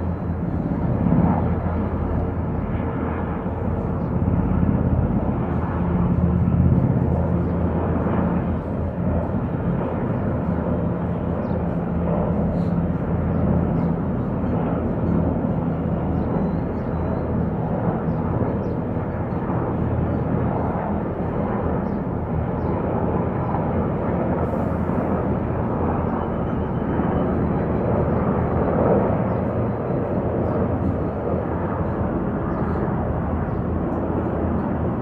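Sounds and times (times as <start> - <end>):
helicopters flying past: 0.0 - 35.0.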